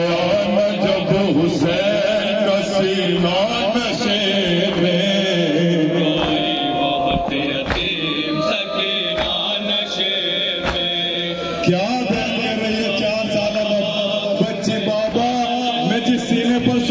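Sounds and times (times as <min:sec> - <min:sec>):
man chanting a lament: 0:00.0 - 0:16.9.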